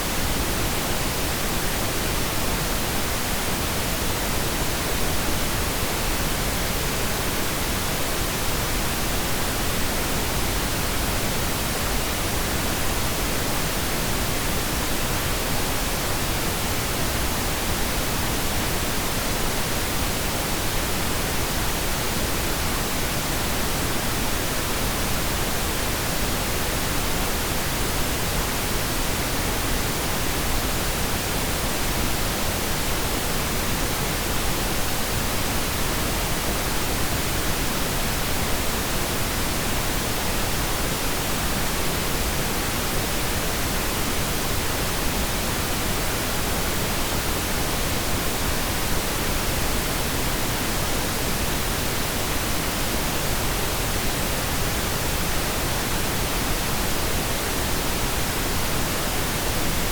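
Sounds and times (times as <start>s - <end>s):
pink noise hiss: 0.0s - 59.9s.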